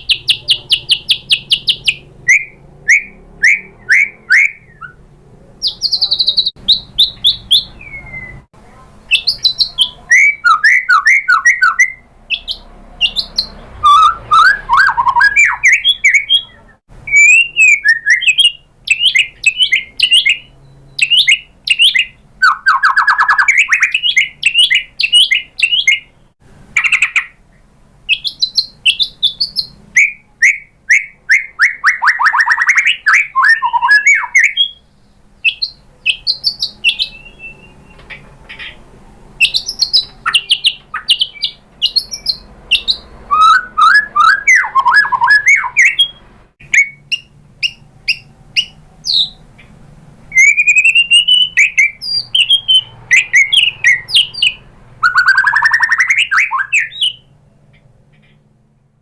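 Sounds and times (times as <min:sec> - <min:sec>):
bird singing whistles and trills: 0:00.0 - 0:05.0, 0:05.6 - 0:08.5, 0:09.1 - 0:27.4, 0:28.1 - 0:38.8, 0:39.4 - 0:49.4, 0:50.3 - 0:58.4.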